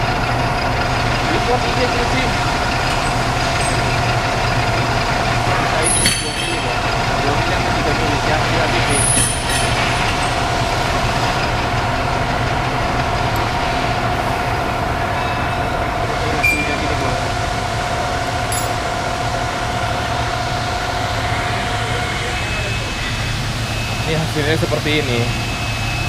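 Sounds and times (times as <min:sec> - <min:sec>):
metal lathe running: 0:00.0 - 0:26.0.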